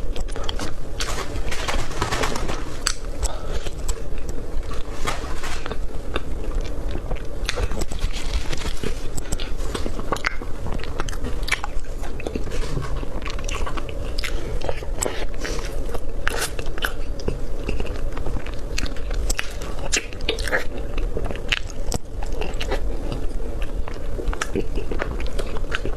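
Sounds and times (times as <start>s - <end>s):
person chewing food: 0.0s - 25.9s.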